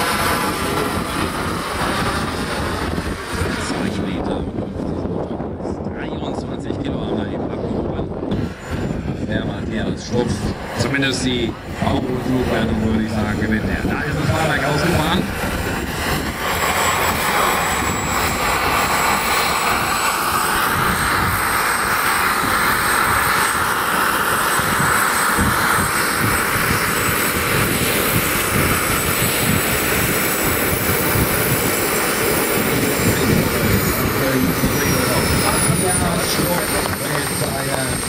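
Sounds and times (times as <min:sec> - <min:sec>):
helicopter rotor noise: 0:00.0 - 0:38.0
high engine whine: 0:00.0 - 0:38.0.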